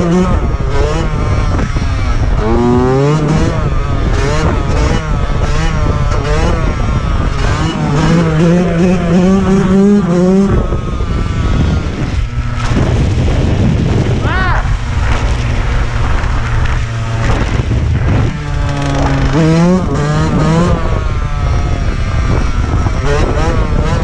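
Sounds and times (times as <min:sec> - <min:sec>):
motorcycle engine revving: 0:00.0 - 0:24.0
wind noise: 0:00.0 - 0:24.0.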